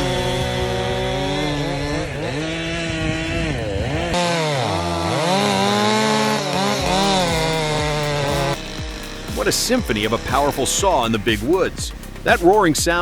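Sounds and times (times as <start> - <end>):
chainsaw cutting under load: 0.0 - 12.7.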